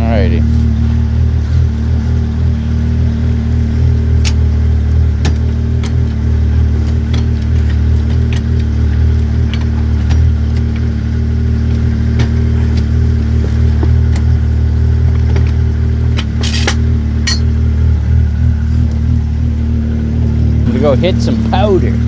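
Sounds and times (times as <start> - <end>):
snowmobile engine idling: 0.0 - 22.0.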